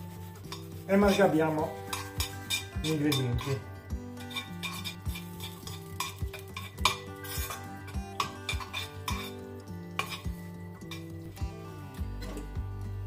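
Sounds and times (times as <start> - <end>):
metal tongs scraping frying pan: 0.0 - 11.3
soft background music: 0.0 - 13.0.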